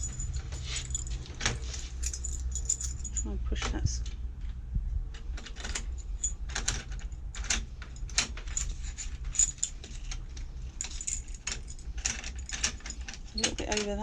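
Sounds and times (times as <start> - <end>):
keys jangling: 0.0 - 3.4, 5.4 - 14.0.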